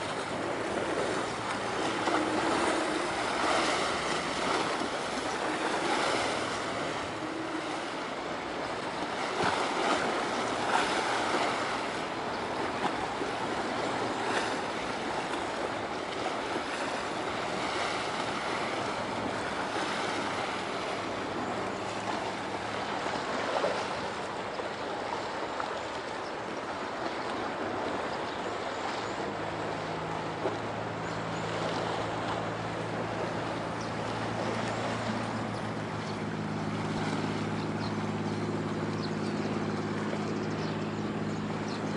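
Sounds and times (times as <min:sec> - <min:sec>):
ship engines droning: 0:00.0 - 0:41.9
wind and water rushing: 0:00.0 - 0:41.9.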